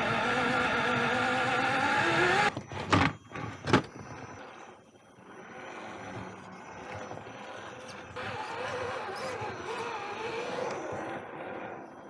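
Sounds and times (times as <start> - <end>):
toy truck electric motor running: 0.0 - 2.5, 4.3 - 12.0.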